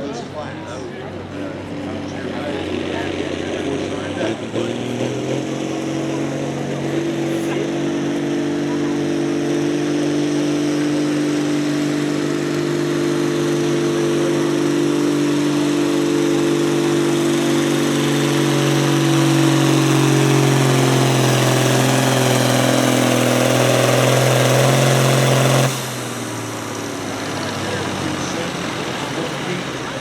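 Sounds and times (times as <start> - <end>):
tractor engine droning under load: 0.0 - 30.0.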